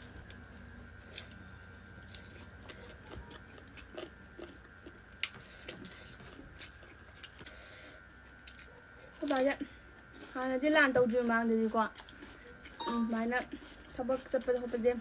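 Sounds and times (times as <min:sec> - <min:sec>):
chewing and mouth sounds: 0:00.0 - 0:07.6, 0:08.2 - 0:10.4, 0:11.8 - 0:15.0.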